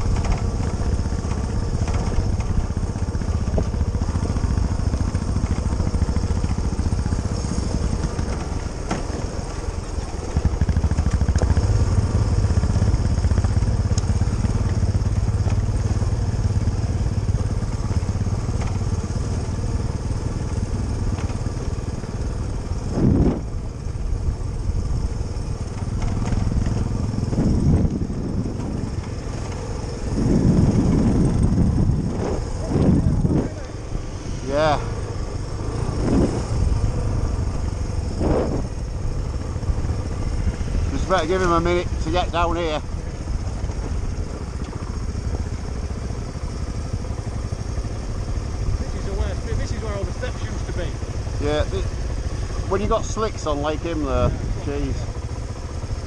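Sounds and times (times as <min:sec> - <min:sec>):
motorcycle engine on gravel: 0:00.0 - 0:56.0.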